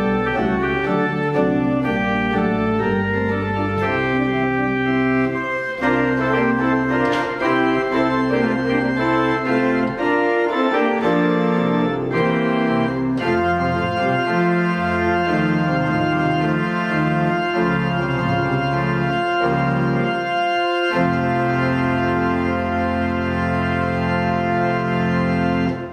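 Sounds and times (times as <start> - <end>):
pipe organ playing chords: 0.0 - 25.9.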